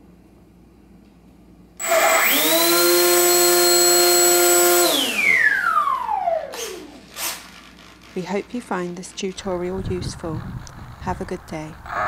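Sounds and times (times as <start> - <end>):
electric motor and propeller whine: 1.8 - 12.0.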